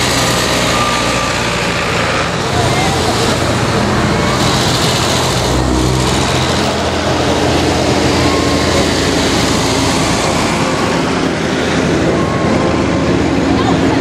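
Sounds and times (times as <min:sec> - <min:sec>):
tractor engines driving past: 0:00.0 - 0:14.0.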